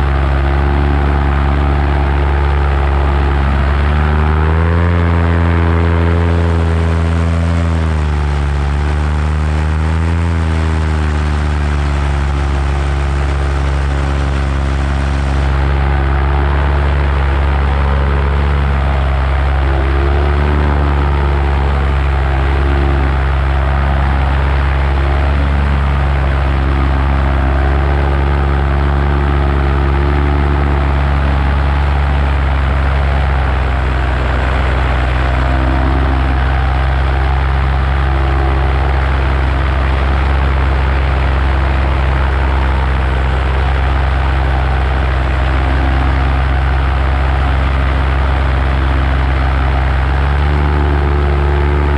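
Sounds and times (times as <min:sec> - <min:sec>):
paramotor engine drone: 0:00.0 - 0:51.9.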